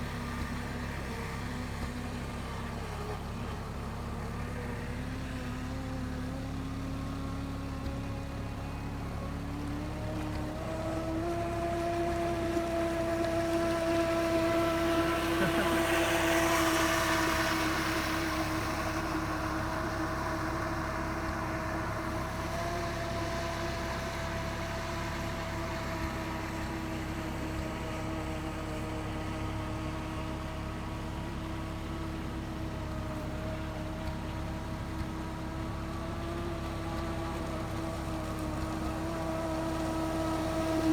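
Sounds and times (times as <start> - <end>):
motor whine: 0.0 - 40.9.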